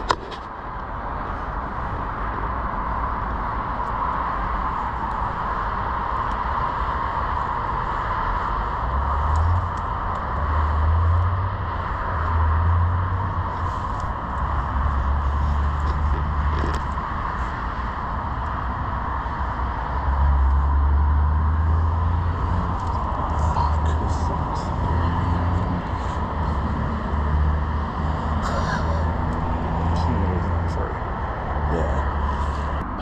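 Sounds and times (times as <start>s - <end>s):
road traffic hiss: 0.0s - 33.0s.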